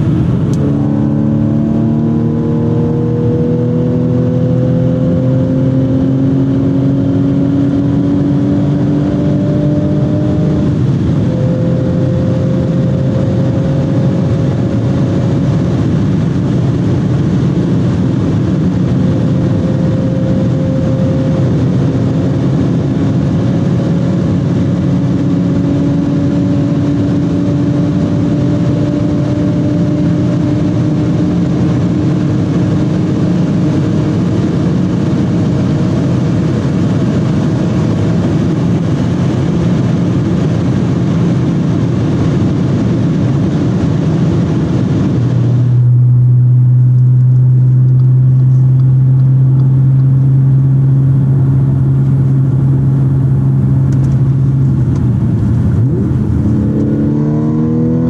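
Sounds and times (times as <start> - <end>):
car engine and exhaust drone: 0.0 - 58.0
wind and tyre noise: 0.0 - 58.0.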